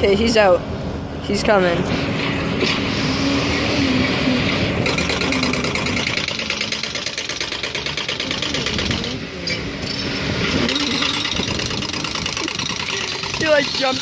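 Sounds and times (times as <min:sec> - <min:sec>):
construction machinery engine running: 0:00.0 - 0:14.0.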